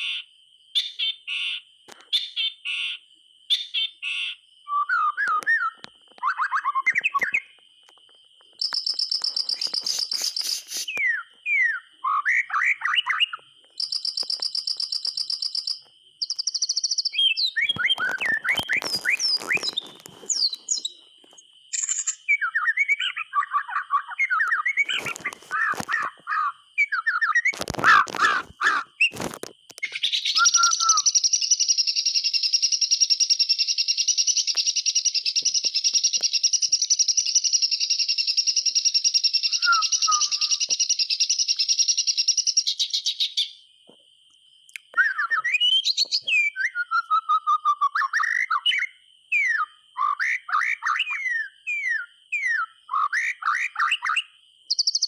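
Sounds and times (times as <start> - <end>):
bird singing whistles and trills: 0.8 - 7.6, 8.6 - 21.1, 21.7 - 27.6, 29.8 - 43.6, 44.7 - 55.0.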